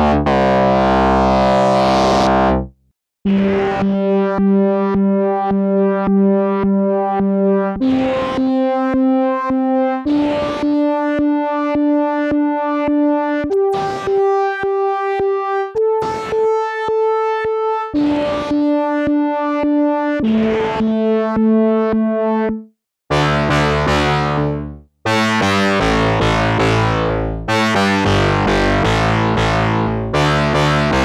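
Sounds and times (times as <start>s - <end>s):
synthesizer held notes: 3.3s - 31.0s.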